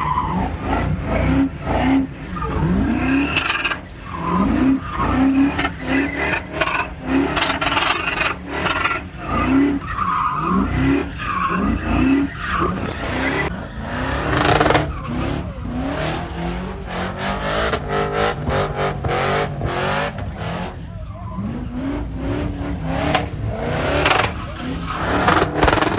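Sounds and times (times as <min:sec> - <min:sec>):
tires squealing on pavement: 0:00.0 - 0:25.9
truck engine revving: 0:00.0 - 0:25.9.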